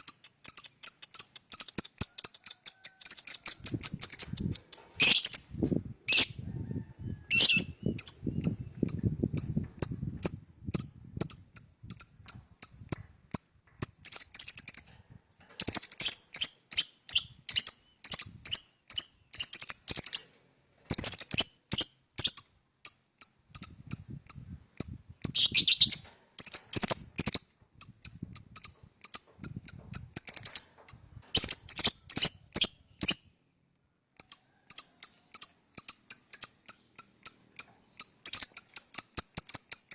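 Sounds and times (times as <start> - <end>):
lovebird chirping: 0.0 - 6.4, 7.1 - 14.9, 15.6 - 20.3, 20.9 - 33.4, 34.2 - 39.9.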